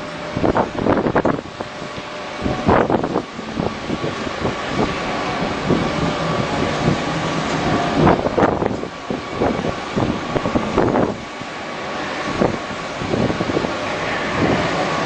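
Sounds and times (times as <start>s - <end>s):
engine rumble: 0.0s - 15.0s
wind buffeting microphone: 0.0s - 15.0s.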